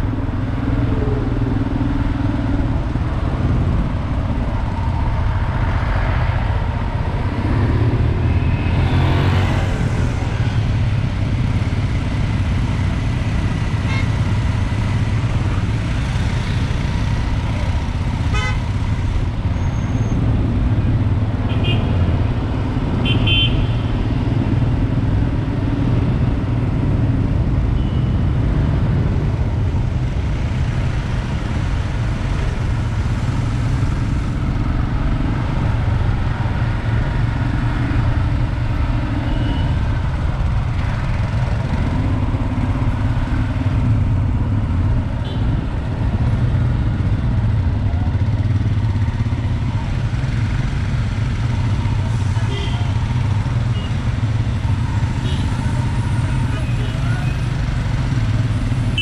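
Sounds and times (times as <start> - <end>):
other motorcycles: 0.0 - 59.0.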